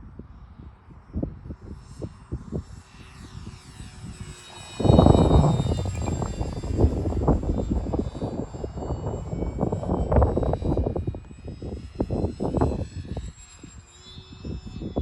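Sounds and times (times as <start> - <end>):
model plane motor whine: 0.0 - 15.0
wind buffeting microphone: 0.0 - 15.0.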